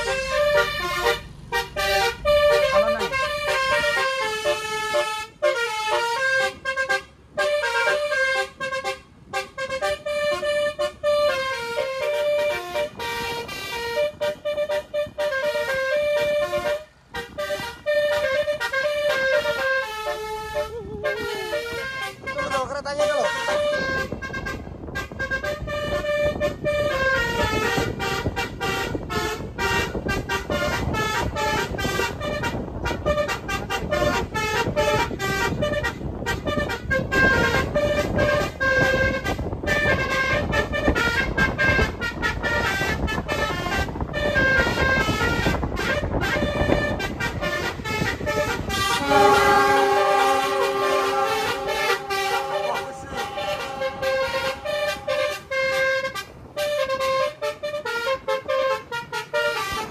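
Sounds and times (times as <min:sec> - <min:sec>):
car engine and road noise: 0:00.0 - 0:59.9
multi-tone horn chord: 0:00.0 - 0:59.9
multi-tone horn melody: 0:00.0 - 0:59.9.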